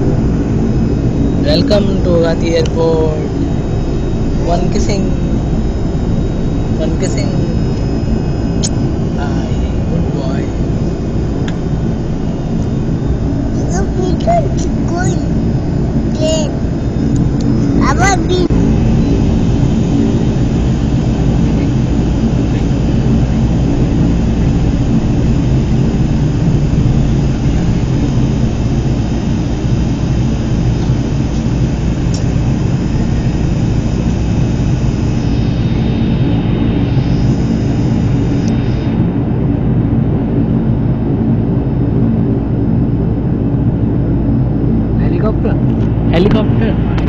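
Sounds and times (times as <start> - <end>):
propeller plane engines droning: 0.0 - 47.0.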